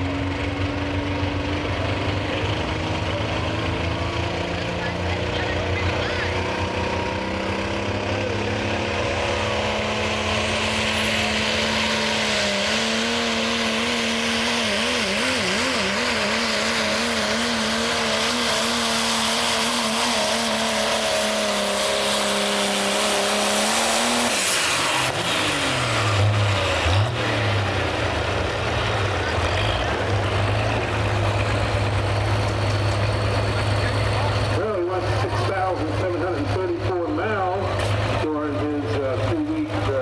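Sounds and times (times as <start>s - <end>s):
diesel engine at full throttle: 0.0s - 40.0s.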